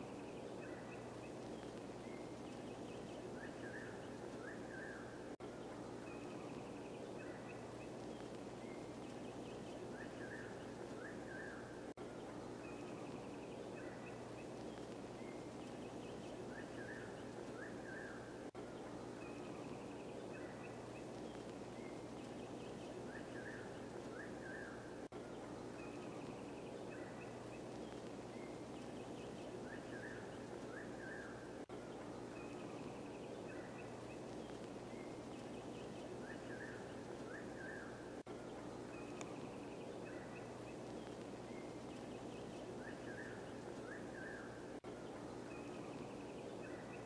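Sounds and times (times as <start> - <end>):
small birds chirping: 0.0 - 47.0
steady background hiss: 0.0 - 47.0.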